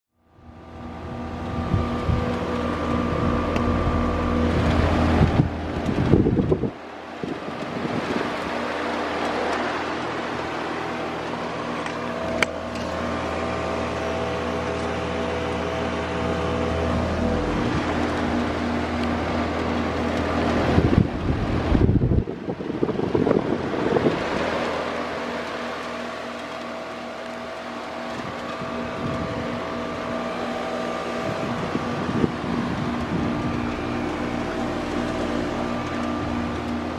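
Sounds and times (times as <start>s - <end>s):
heat pump fan rushing and humming: 0.2s - 36.9s.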